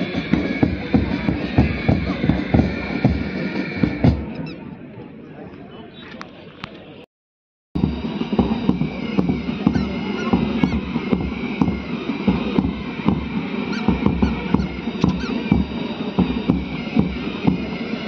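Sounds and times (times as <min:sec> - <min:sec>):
drum beats: 0:00.0 - 0:04.5, 0:07.8 - 0:18.0
military band playing a march: 0:00.0 - 0:04.5, 0:07.8 - 0:18.0.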